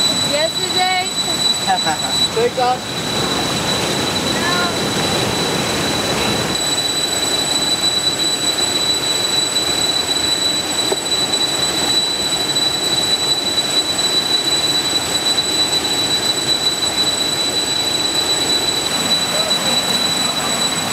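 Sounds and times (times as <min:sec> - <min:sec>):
thin high-pitched tone: 0:00.0 - 0:05.2, 0:06.1 - 0:20.9.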